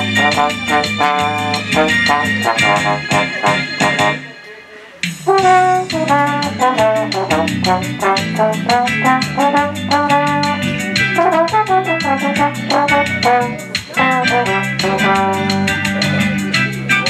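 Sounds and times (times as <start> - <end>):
backing track with bass and percussion: 0.0 - 4.4, 5.0 - 17.0
slide trombone melody: 0.0 - 4.4, 5.2 - 16.4.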